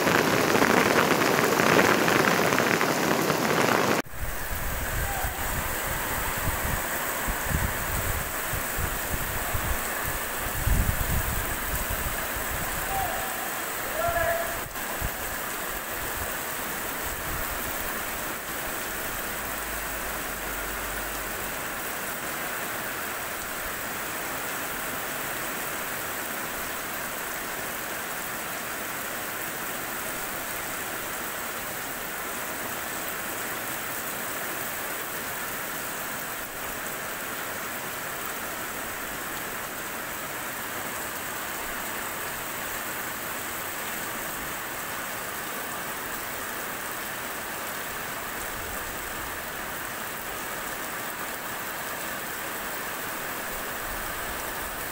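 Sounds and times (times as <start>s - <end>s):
heavy rain on pavement: 0.0s - 54.9s.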